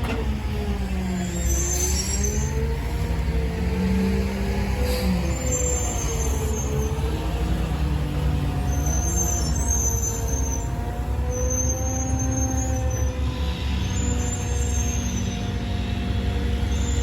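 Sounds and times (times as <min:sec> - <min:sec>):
large diesel engine rumbling: 0:00.0 - 0:17.0.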